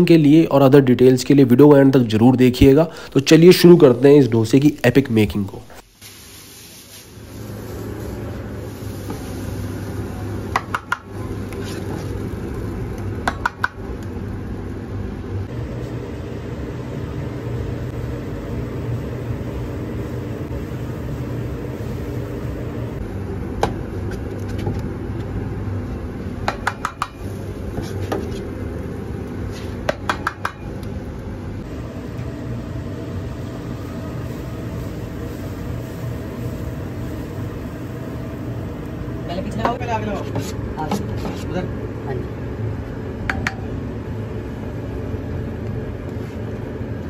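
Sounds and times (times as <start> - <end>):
kitchen hum: 0.0 - 47.0.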